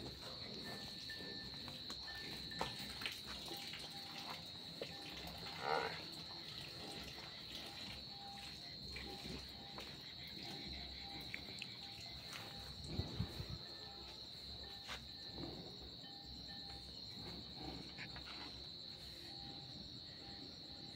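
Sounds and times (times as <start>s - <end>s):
crickets chirping: 0.0s - 20.9s.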